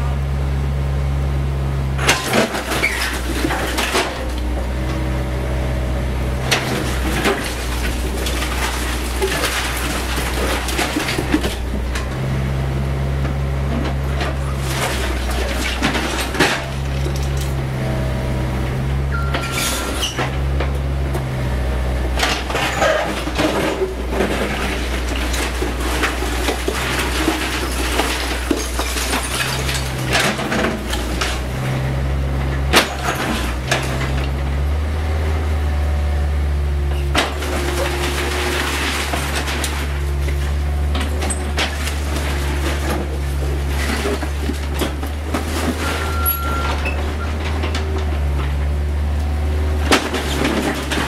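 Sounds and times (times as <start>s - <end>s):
excavator diesel engine running: 0.0s - 51.0s
steel bucket scraping rubble: 2.0s - 34.7s, 36.9s - 51.0s
falling debris clattering: 2.0s - 34.8s, 36.9s - 51.0s.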